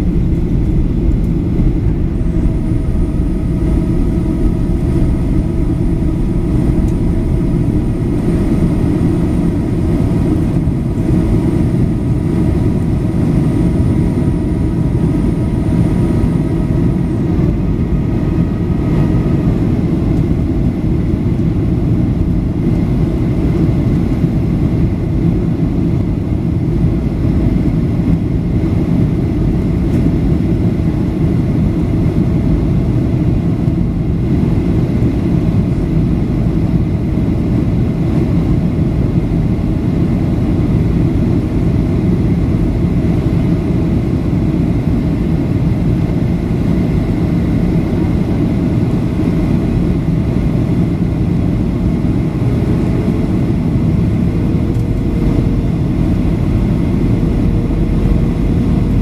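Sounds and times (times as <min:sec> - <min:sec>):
faint hum: 0:00.0 - 0:28.4, 0:29.0 - 0:59.0
airplane cabin rumble: 0:00.0 - 0:59.0.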